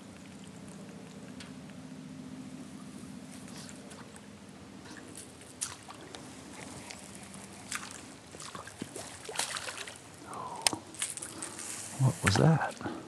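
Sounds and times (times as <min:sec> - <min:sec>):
low hum: 0:00.0 - 0:12.0
water running into river: 0:00.0 - 0:13.0.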